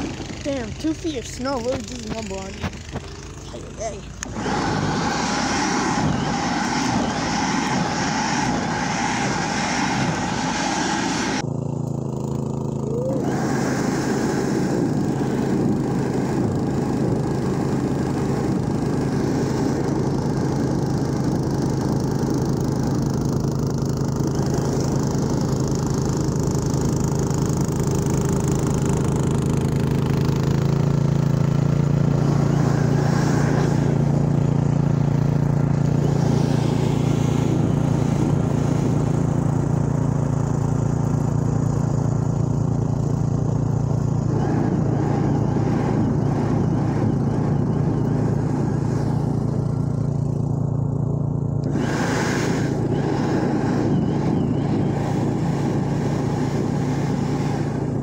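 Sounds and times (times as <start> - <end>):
snowblower engines running: 0.0 - 58.0.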